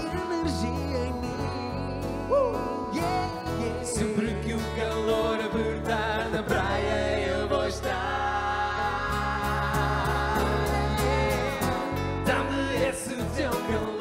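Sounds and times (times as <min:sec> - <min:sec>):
acoustic pop band playing: 0:00.0 - 0:14.0
man singing into microphone: 0:00.0 - 0:14.0.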